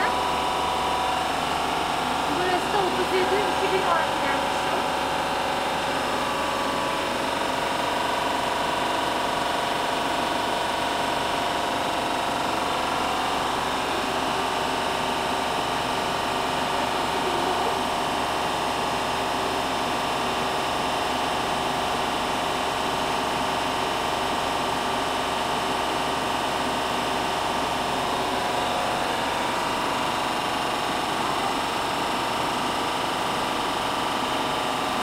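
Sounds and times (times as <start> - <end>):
shaking incubator humming: 0.0 - 35.0
whir of fans and motor: 0.0 - 35.0.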